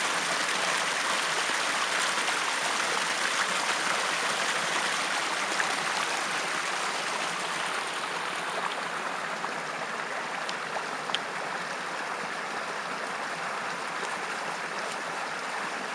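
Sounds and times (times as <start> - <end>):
stream running over stones: 0.0 - 15.9.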